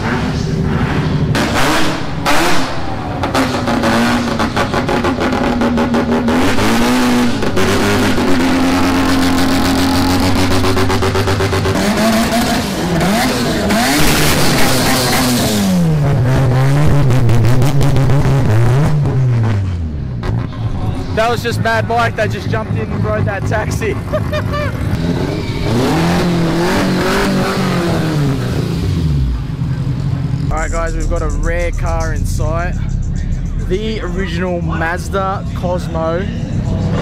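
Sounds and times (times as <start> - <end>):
car engines revving: 0.0 - 37.0
exhaust bangs: 0.0 - 37.0.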